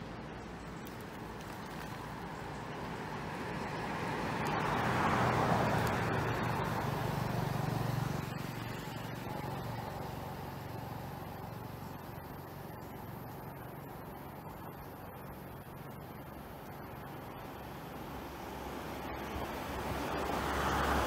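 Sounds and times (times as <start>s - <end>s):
vehicle passing by: 2.0s - 13.8s, 14.4s - 21.0s.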